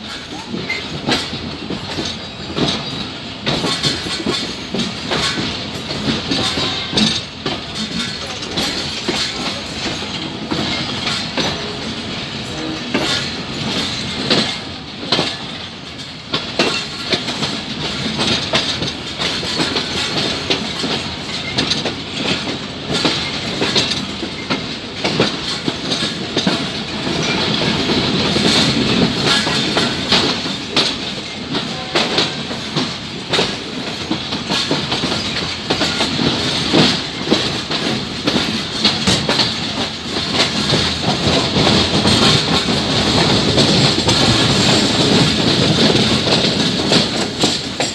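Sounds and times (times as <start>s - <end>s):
train wheels clacking over rail joints: 0.0s - 47.9s.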